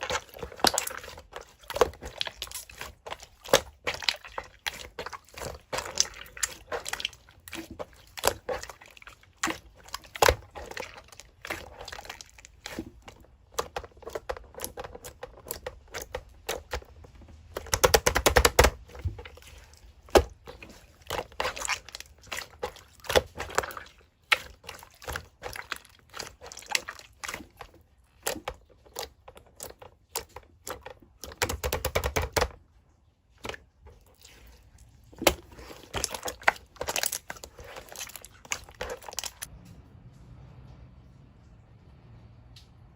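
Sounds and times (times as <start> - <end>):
slime squelching: 0.0 - 39.5.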